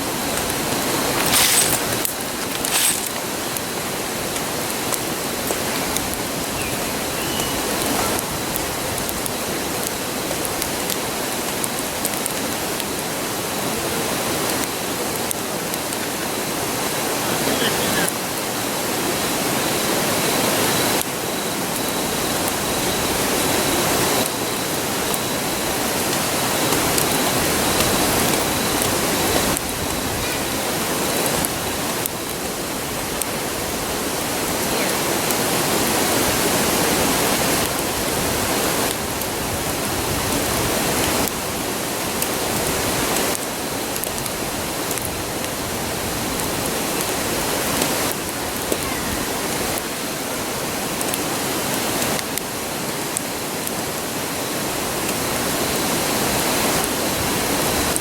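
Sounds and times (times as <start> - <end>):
faint campfire crackles: 0.0 - 58.0
river rushing: 0.0 - 58.0.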